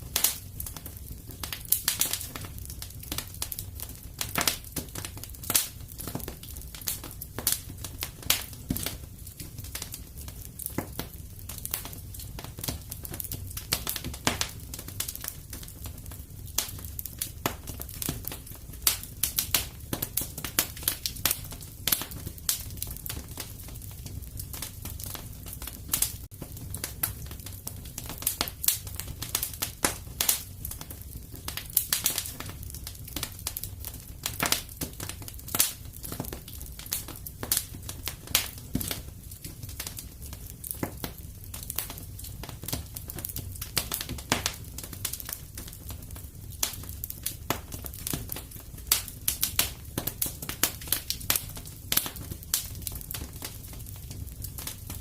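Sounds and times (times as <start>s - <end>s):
low fire rumble: 0.0s - 55.0s
wood fire crackling: 0.0s - 55.0s.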